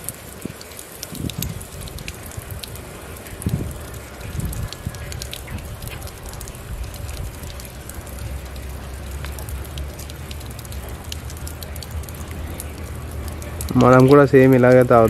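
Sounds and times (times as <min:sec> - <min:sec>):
low uneven rumble: 0:00.0 - 0:15.0
tap water splashing on rock: 0:00.0 - 0:15.0.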